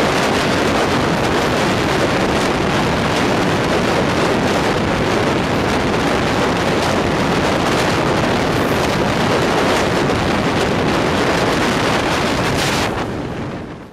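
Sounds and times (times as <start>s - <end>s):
train wind and wheel noise: 0.0s - 13.9s
wind buffeting microphone: 0.0s - 13.9s.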